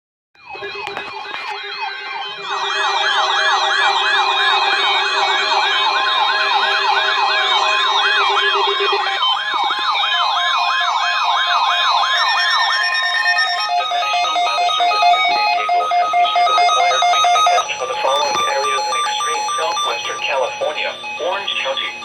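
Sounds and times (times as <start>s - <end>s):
warbling electronic alert sirens: 0.4s - 22.0s.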